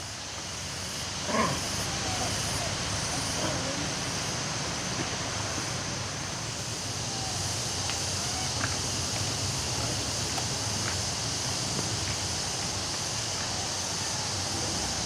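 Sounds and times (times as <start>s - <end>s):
high-pitched hiss: 0.0s - 15.0s
distant voices: 0.3s - 15.0s.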